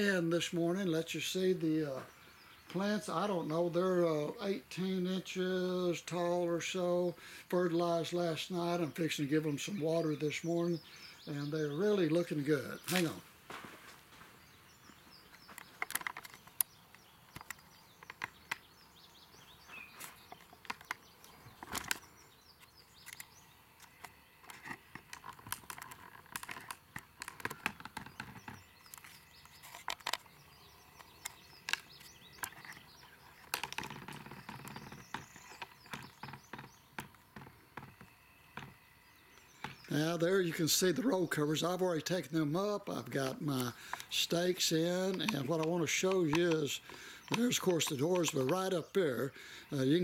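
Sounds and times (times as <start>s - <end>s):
bird chirps: 8.0s - 13.3s, 14.3s - 50.0s.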